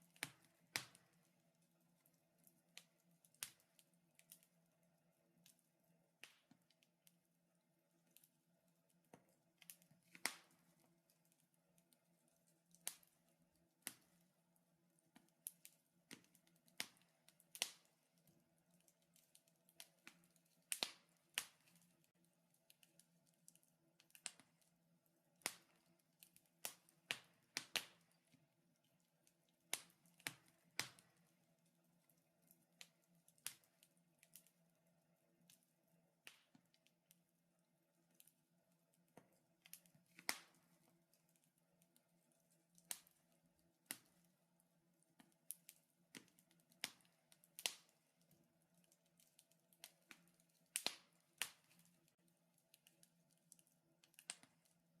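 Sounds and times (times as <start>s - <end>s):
wood fire crackling: 0.0s - 7.2s, 7.9s - 37.3s, 37.9s - 55.0s.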